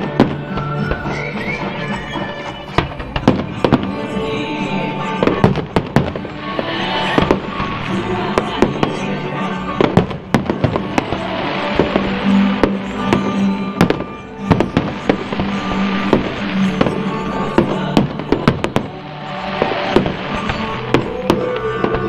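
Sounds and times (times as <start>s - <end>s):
fireworks bangs: 0.0s - 22.0s
music playing: 0.0s - 22.0s.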